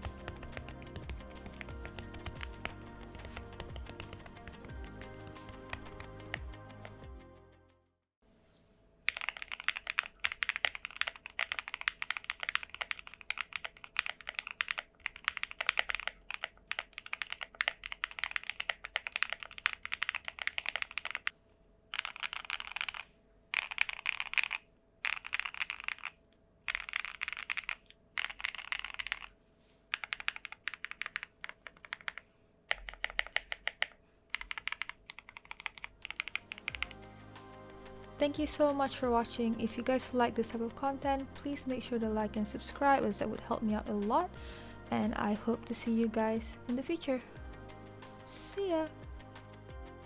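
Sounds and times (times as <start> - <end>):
mechanical keyboard typing: 0.0 - 7.0, 9.1 - 21.3, 21.9 - 47.4.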